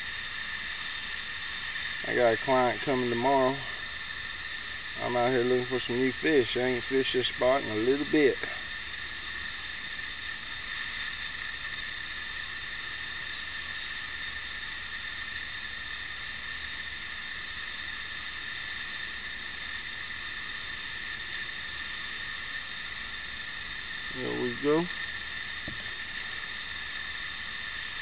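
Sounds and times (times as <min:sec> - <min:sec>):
background hiss: 0:00.0 - 0:28.0
high-pitched whine: 0:00.0 - 0:28.0.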